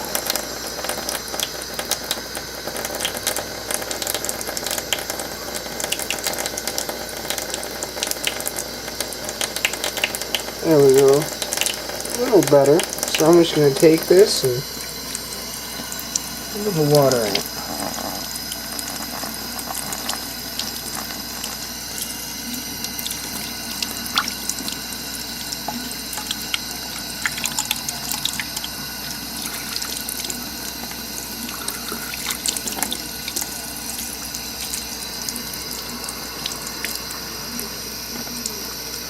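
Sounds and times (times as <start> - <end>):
tap water running into sink: 0.0 - 39.0.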